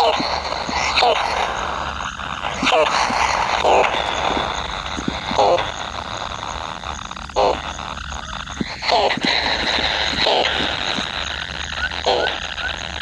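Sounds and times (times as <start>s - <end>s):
bird nestlings calling: 0.0s - 12.9s.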